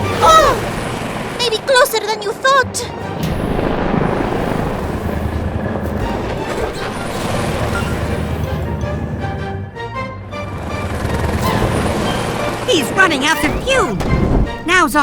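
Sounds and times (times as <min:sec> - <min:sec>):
background music: 0:00.0 - 0:15.0
whirring engine drone: 0:00.0 - 0:15.0.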